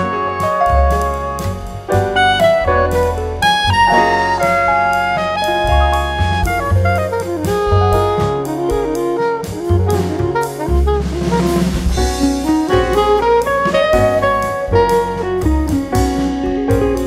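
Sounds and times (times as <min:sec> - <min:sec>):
jazz-like instrumental music: 0:00.0 - 0:17.0.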